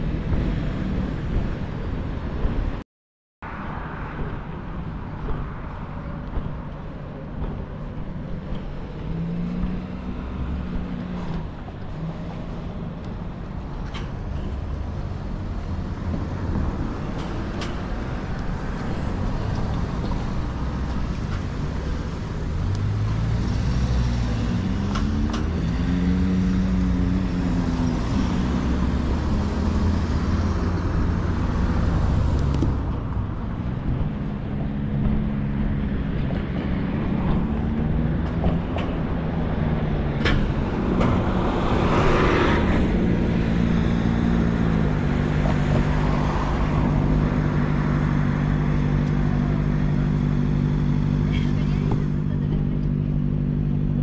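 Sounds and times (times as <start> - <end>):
tyre and road noise: 0.0 - 2.8, 3.4 - 54.0
cars driving past: 3.4 - 54.0.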